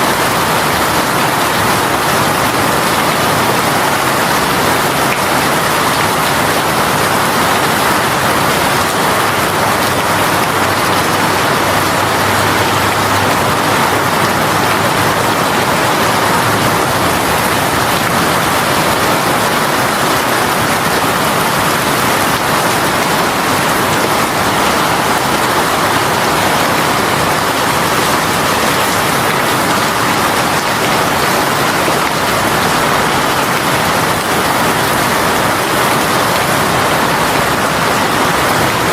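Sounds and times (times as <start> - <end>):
heavy rain on surfaces: 0.0 - 38.9.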